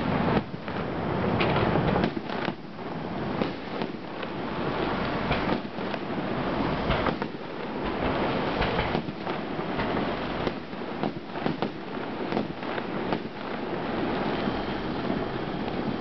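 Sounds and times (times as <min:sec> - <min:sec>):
continuous rumbling roar: 0:00.0 - 0:16.0
fireworks bangs and crackles: 0:00.0 - 0:16.0.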